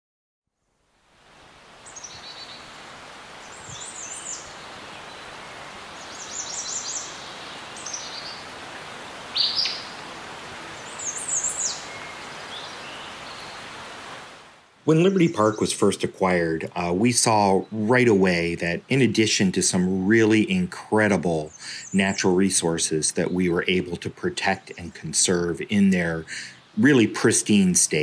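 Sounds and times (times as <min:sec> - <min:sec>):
steady hiss: 0:00.7 - 0:28.0
songbirds chirping: 0:01.7 - 0:28.0.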